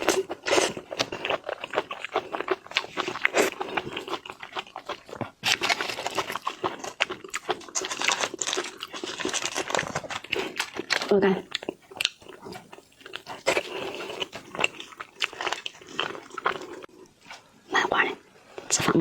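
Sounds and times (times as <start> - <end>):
wet chewing and lip-smacking: 0.0 - 17.4.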